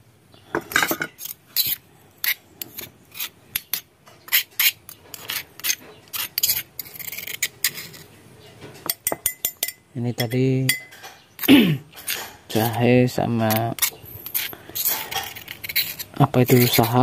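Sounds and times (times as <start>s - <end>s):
metal spoon scraping stone mortar: 0.6s - 8.2s, 8.8s - 17.0s.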